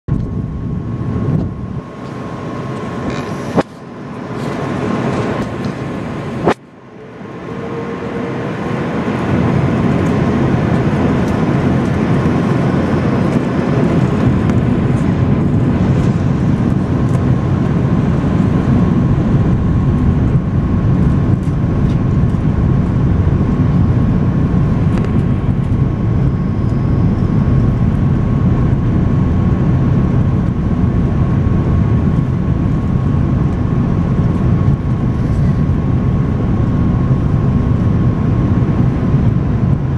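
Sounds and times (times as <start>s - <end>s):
aircraft engine and airflow rumble: 0.1s - 39.9s
faint steady whine: 0.1s - 39.9s.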